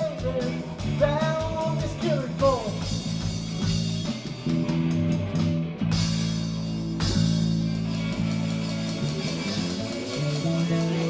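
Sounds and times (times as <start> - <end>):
blues-rock band playing: 0.0 - 11.0.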